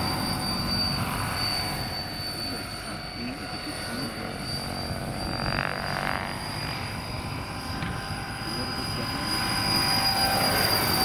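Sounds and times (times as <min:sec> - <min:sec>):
model helicopter rotors whining: 0:00.0 - 0:11.0.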